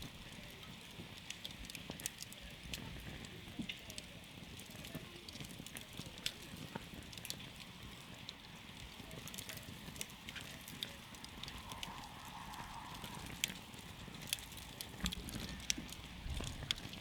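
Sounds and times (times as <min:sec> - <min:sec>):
campfire burning and crackling: 0:00.0 - 0:17.0.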